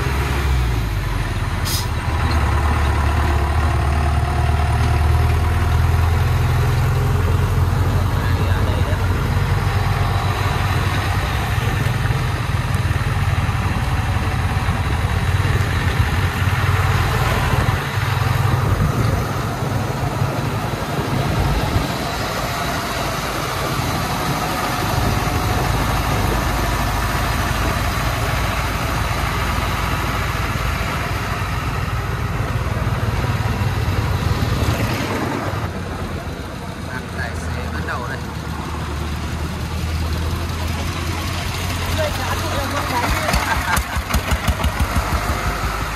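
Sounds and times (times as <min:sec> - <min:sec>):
dump truck engine droning: 0:00.0 - 0:45.9.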